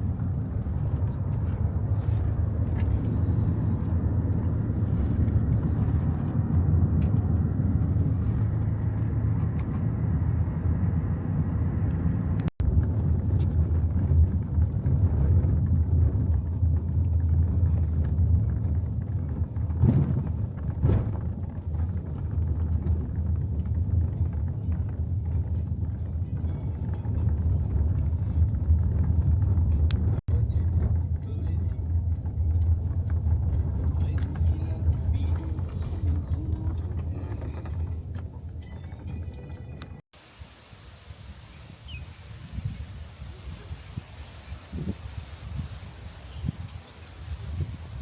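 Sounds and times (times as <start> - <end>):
vehicle interior rumble: 0.0 - 40.3, 41.4 - 48.0.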